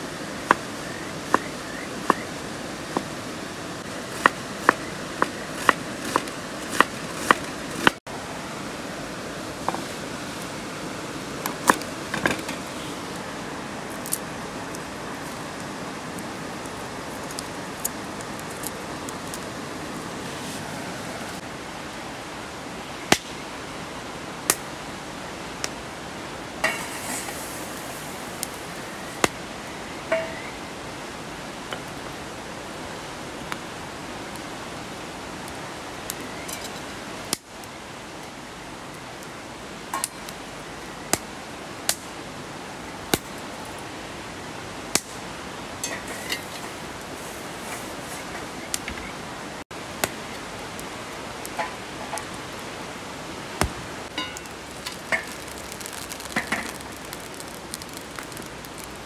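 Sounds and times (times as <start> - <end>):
rain hissing: 0.0 - 59.0.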